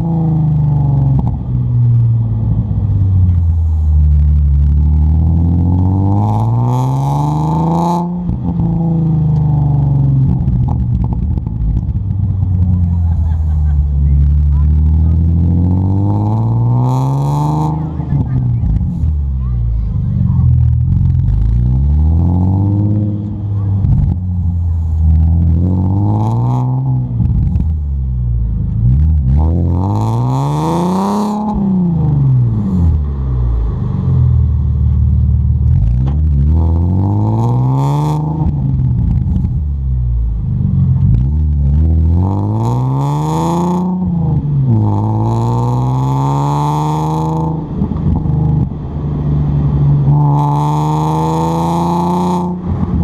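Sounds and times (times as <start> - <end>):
car exhaust revving: 0.0 - 53.0.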